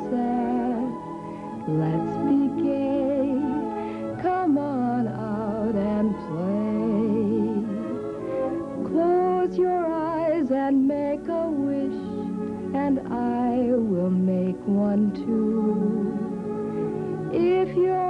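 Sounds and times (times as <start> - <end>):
woman singing with vibrato: 0.0 - 16.4, 17.2 - 18.0
instrumental accompaniment: 0.0 - 18.0.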